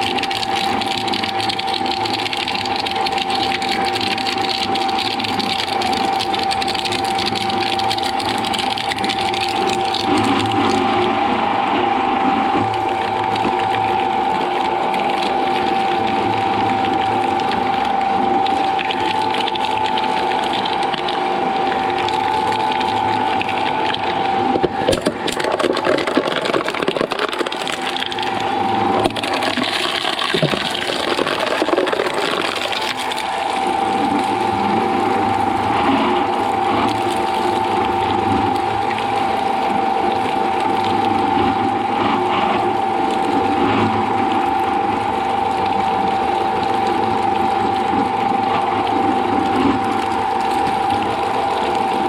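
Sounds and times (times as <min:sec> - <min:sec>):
shredder machine whine: 0:00.0 - 0:52.0.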